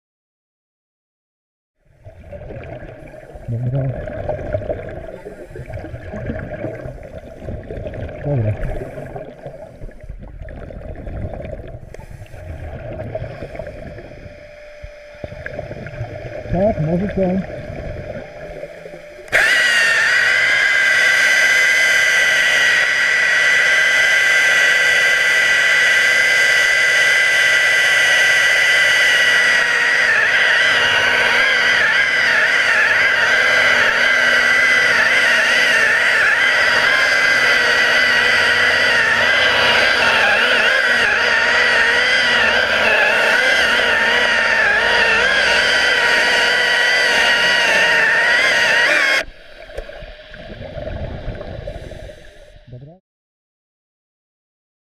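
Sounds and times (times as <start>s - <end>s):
underwater chainsaw whine: 1.8s - 53.0s.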